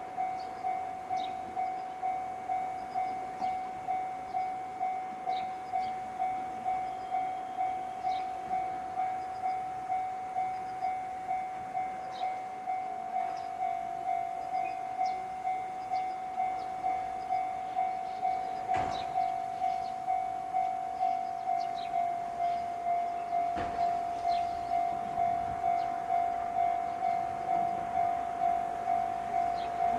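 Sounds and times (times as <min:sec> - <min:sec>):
electronic level crossing bell: 0:00.0 - 0:29.9.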